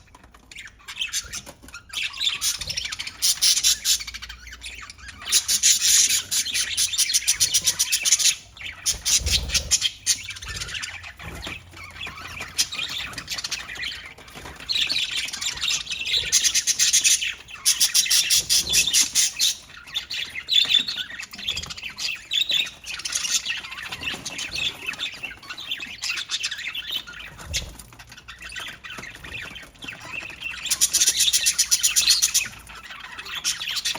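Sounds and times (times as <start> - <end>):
budgerigars chattering and squawking: 0.0 - 33.9.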